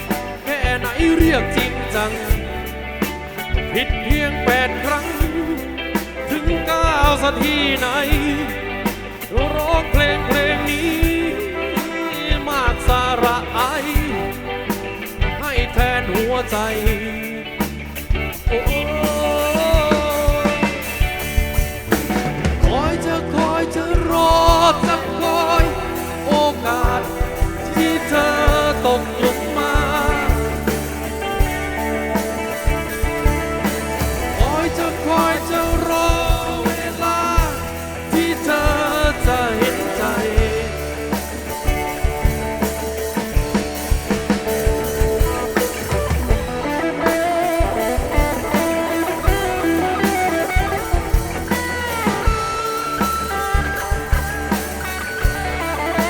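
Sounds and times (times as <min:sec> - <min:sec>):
bass guitar: 0:00.0 - 0:56.0
drum kit steady beat: 0:00.0 - 0:56.0
lead guitar bending notes: 0:00.0 - 0:56.0.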